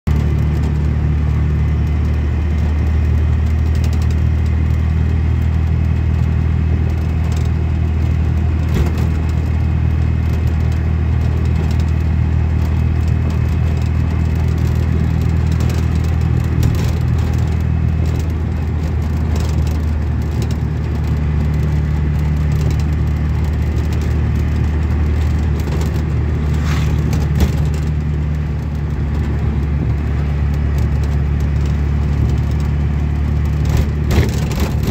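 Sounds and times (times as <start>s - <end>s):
vehicle engine and tyres rumbling: 0.0s - 34.9s
faint clicks and rattles: 0.1s - 34.9s.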